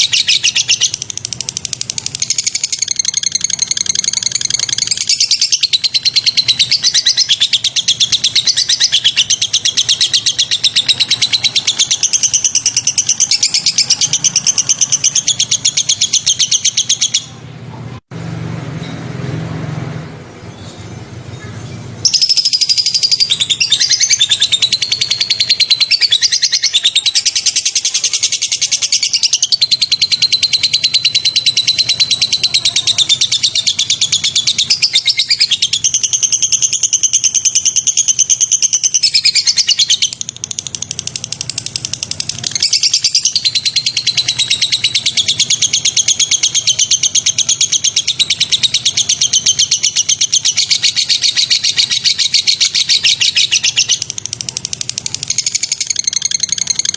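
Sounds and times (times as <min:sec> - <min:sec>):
bird singing rapid phrases: 0:00.0 - 0:17.6, 0:20.4 - 0:56.9.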